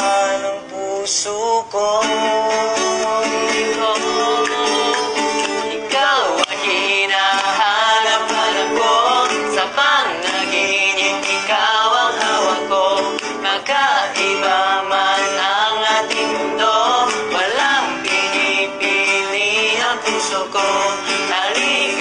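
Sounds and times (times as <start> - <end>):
strummed acoustic guitar: 0.0 - 22.0
two men singing: 0.0 - 22.0.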